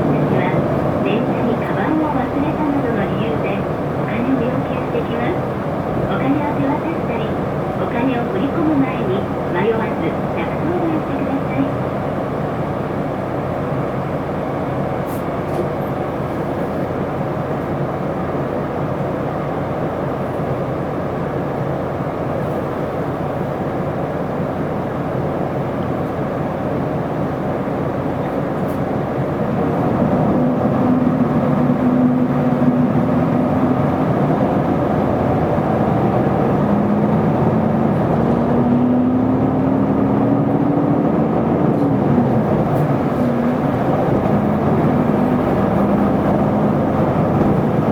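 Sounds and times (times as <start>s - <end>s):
bus engine and road noise: 0.0s - 47.9s.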